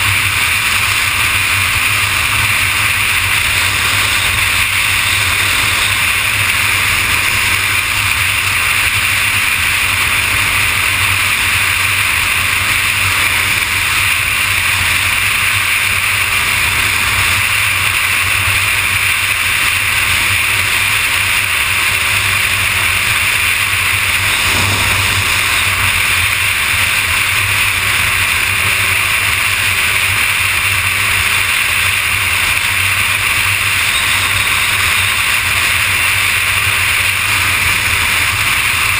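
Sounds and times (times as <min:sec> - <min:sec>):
motorcycle engine drone: 0:00.0 - 0:38.9
wind and road noise: 0:00.0 - 0:38.9.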